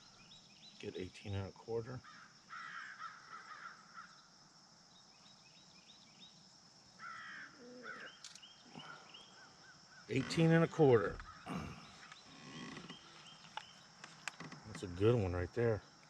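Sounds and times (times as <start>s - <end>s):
faint harsh bird calls: 0.0s - 4.3s, 4.9s - 16.0s.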